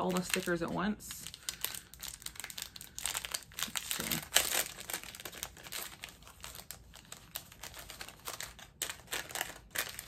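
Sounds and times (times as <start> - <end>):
sticker packaging crinkling: 0.0 - 10.0.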